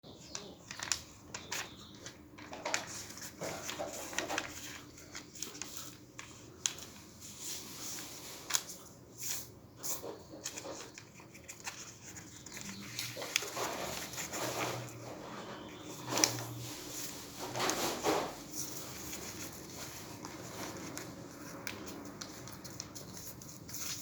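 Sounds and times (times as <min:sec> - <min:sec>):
paper being folded and creased: 0:00.2 - 0:09.4, 0:10.0 - 0:24.0.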